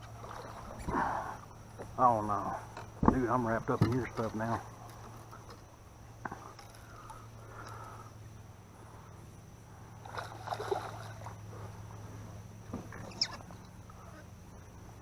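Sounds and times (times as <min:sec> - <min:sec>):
water sloshing around boat: 0:00.0 - 0:08.1, 0:08.7 - 0:15.0
steady low hum: 0:00.0 - 0:15.0.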